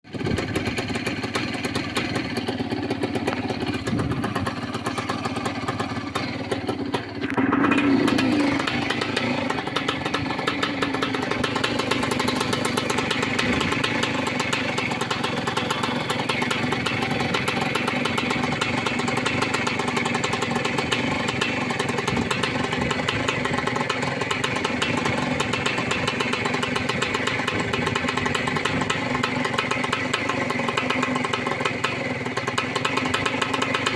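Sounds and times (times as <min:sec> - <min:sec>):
two-stroke engine running: 0:00.0 - 0:33.9.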